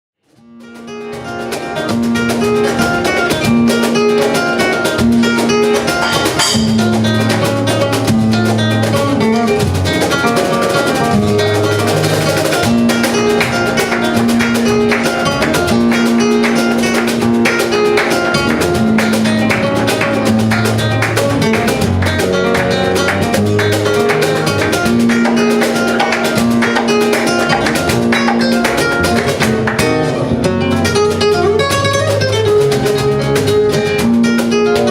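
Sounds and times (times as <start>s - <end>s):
flamenco guitar music: 0.2s - 34.9s.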